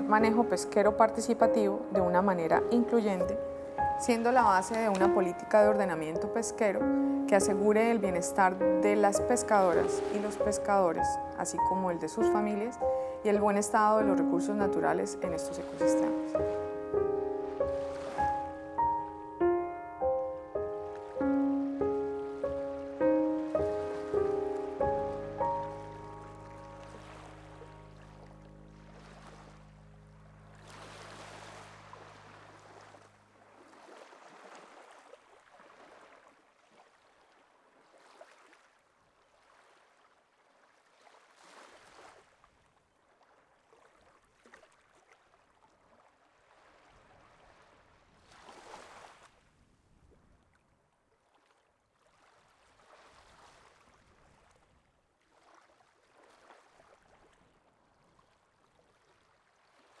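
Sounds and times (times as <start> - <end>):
faint rushing water: 0.0 - 19.8, 20.4 - 49.4.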